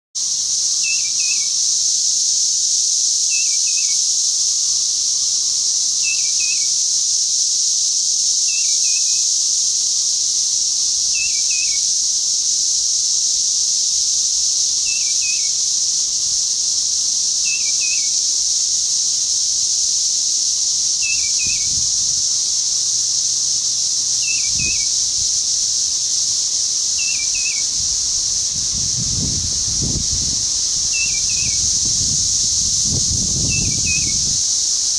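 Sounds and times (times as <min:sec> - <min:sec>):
high-pitched insect drone: 0:00.2 - 0:34.9.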